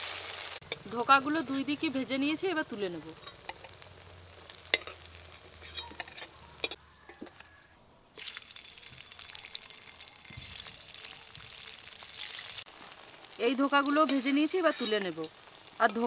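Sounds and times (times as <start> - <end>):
hot oil sizzling and popping: 0.0 - 7.5, 8.1 - 16.0.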